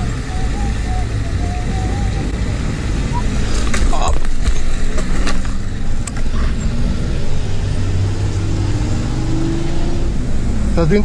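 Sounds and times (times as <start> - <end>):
wind noise: 0.0 - 10.8
wet road noise: 0.0 - 11.0.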